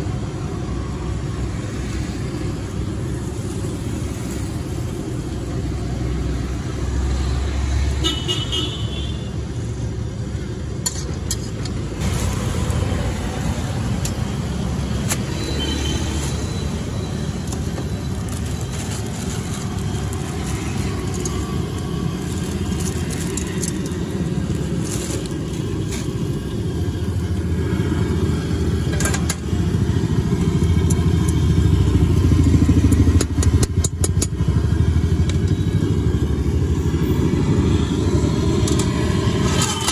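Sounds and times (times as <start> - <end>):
street traffic rumbling: 0.0 - 39.9.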